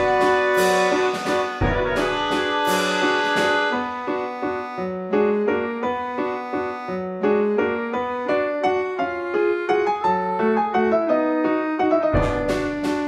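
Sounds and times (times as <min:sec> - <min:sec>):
piano keyboard music: 0:00.0 - 0:13.0.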